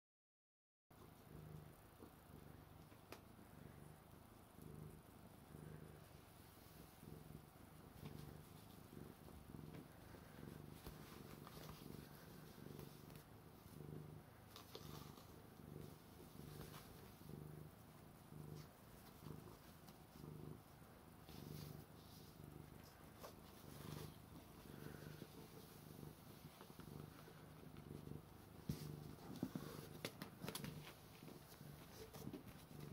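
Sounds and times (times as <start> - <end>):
cat purring: 0.9 - 32.9.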